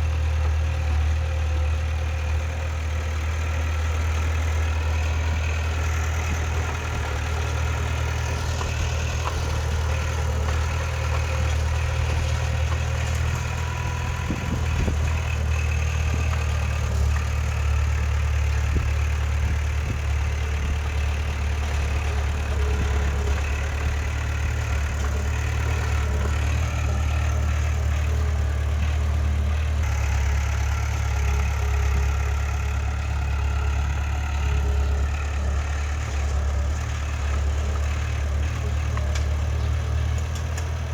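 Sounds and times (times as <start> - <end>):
diesel engine humming: 0.0 - 40.9.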